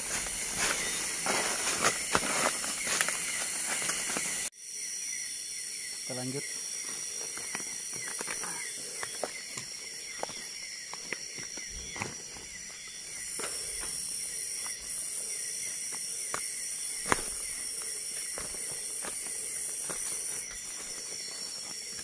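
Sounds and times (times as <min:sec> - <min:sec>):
footsteps crunching on forest floor: 0:00.0 - 0:04.5, 0:06.8 - 0:22.0
night insects shrilling: 0:00.0 - 0:22.0.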